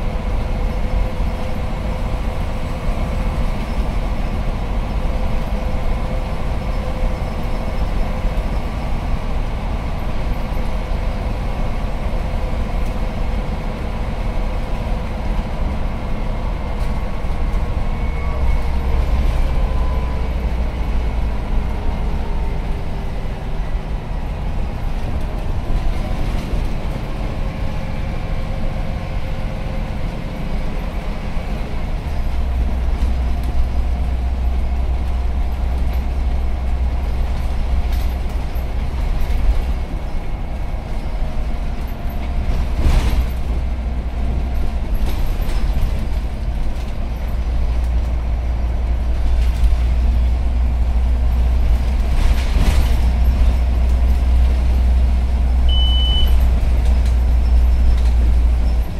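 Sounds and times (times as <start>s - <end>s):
bus diesel engine drone: 0.0s - 58.9s
road noise: 0.0s - 58.9s.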